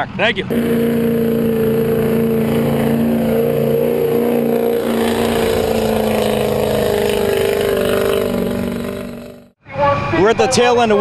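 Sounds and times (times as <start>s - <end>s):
truck engine at high revs: 0.5s - 9.6s.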